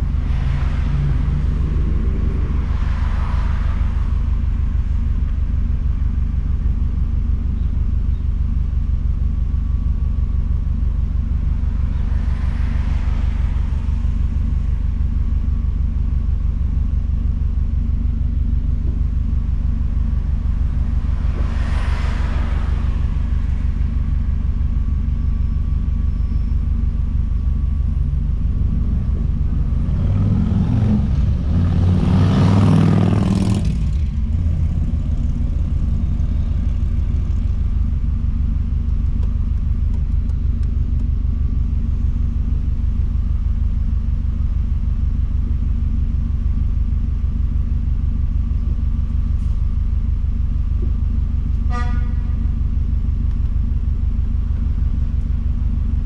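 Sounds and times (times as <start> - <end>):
car engine and exhaust rumbling: 0.0 - 56.0.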